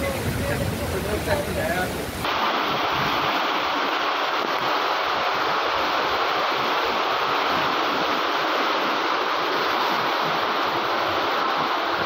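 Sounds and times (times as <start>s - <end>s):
floodwater rushing: 0.0s - 12.0s
heavy rain falling: 0.0s - 12.0s.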